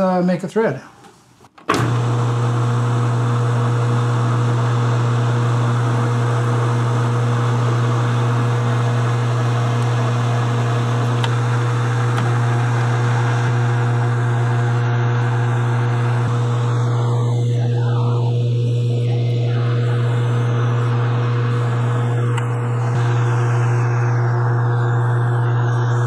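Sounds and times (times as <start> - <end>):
metal lathe humming: 1.8 - 26.0.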